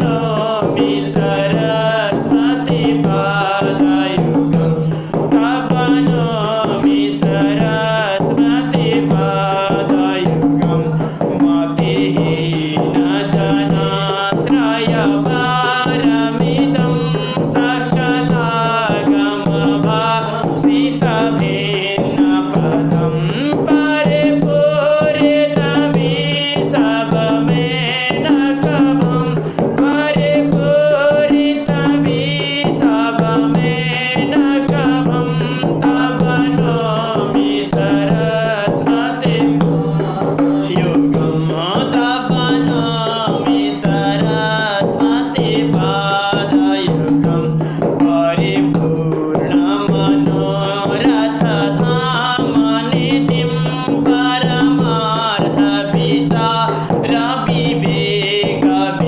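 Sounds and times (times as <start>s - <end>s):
hand drum rhythm: 0.0s - 59.0s
man singing a hymn: 0.0s - 59.0s.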